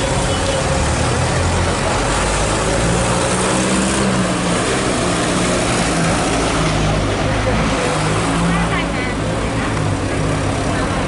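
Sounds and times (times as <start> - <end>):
heavy diesel engines rumbling: 0.0 - 11.0
traffic noise: 0.0 - 11.0.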